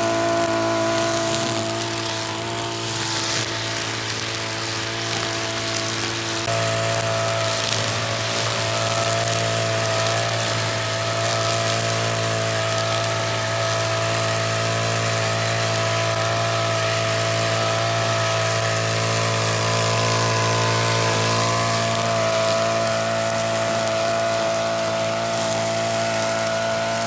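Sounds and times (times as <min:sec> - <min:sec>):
brush cutter cutting grass: 0:00.0 - 0:27.0.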